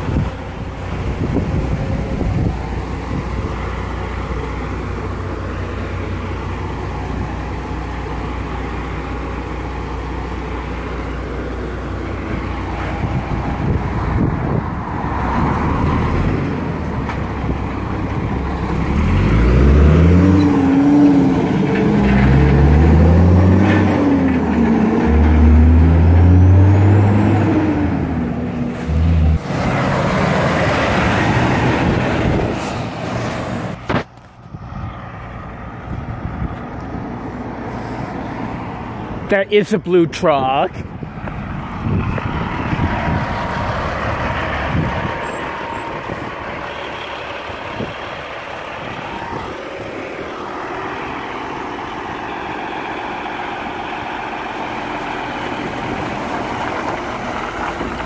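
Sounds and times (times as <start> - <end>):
diesel truck engine idling: 0.0 - 26.7, 27.7 - 58.0
heavy truck accelerating: 0.0 - 58.0
loaded truck passing: 0.0 - 58.0.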